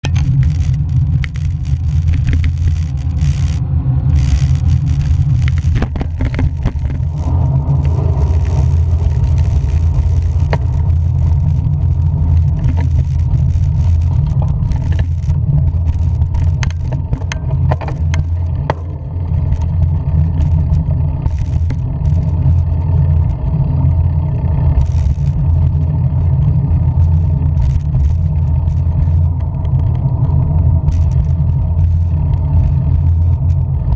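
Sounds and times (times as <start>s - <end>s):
faint clicks and rustles: 0.0s - 33.9s
loud low rumble: 0.0s - 33.9s.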